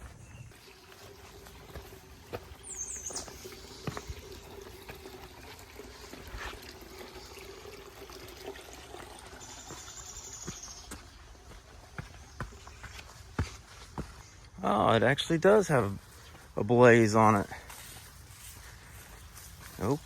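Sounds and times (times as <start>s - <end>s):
footsteps on a trail: 0.0s - 6.8s, 8.6s - 20.0s.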